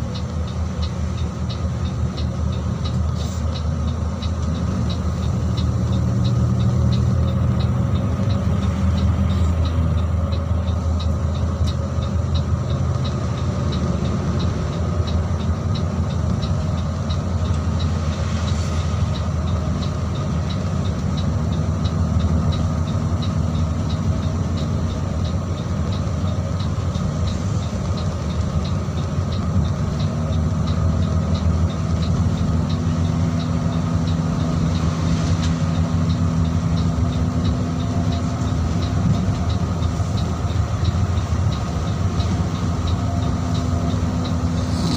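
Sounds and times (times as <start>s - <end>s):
coach diesel engine humming: 0.0s - 44.9s
light ticking: 0.0s - 44.9s.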